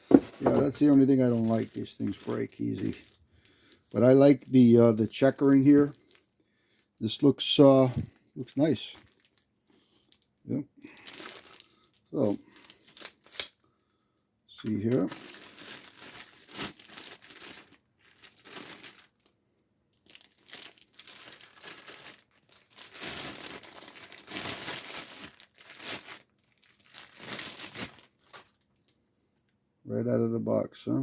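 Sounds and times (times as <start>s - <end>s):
packaging crinkling and rustling: 0.0s - 10.3s, 10.9s - 13.6s, 14.6s - 29.6s.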